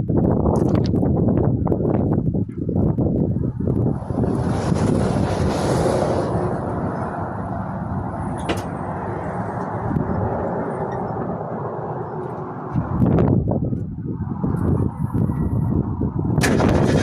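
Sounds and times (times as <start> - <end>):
truck exhaust running: 0.0 - 17.0.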